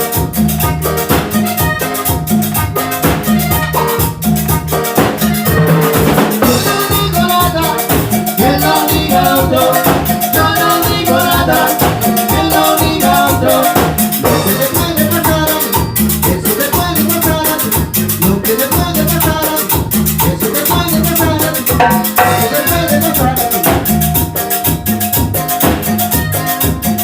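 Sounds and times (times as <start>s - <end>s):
salsa band playing: 0.0s - 27.0s.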